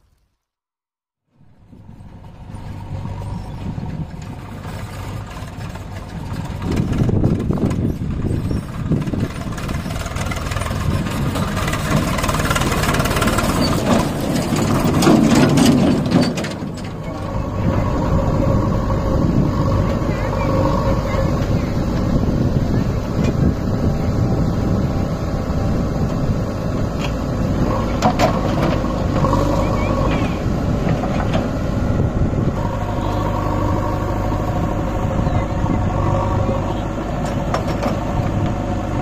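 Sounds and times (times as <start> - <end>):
diesel tractor engine running: 1.3 - 39.0.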